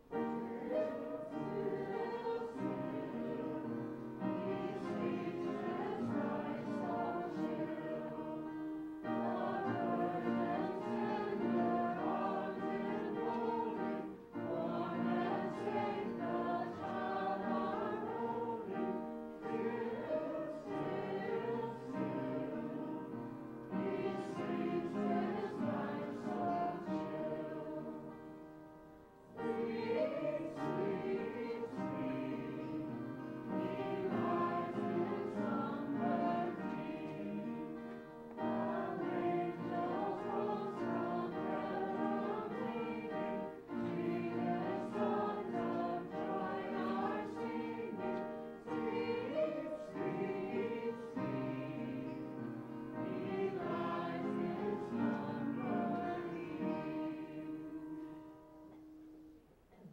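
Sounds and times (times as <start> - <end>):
choir singing: 0.0 - 58.9.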